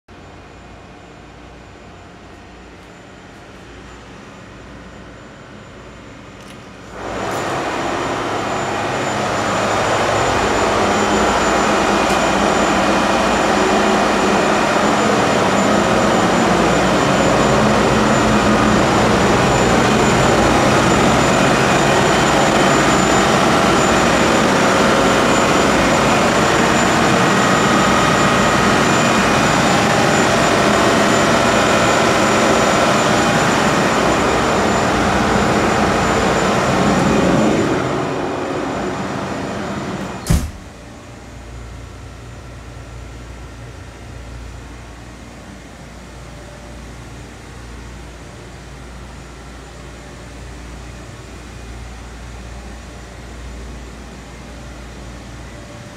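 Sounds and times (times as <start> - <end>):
engine room machinery drone: 0.1 - 55.9
steady machinery whine: 0.1 - 55.9.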